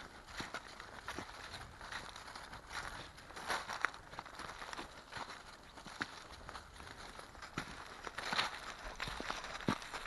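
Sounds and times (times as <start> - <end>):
footsteps on ground: 0.0 - 10.0.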